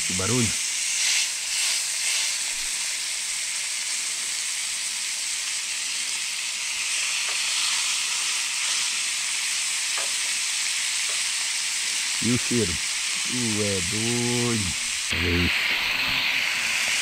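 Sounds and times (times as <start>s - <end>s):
meat sizzling in a frying pan: 0.0s - 14.2s, 14.8s - 17.0s.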